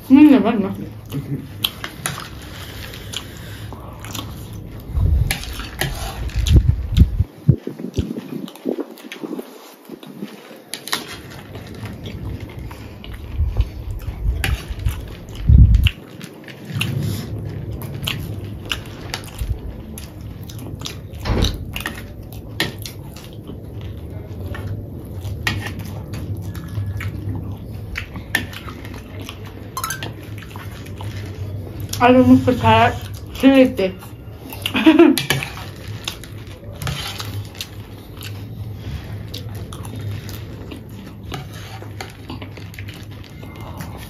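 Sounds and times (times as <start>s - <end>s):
people crunching food: 0.8s - 44.0s.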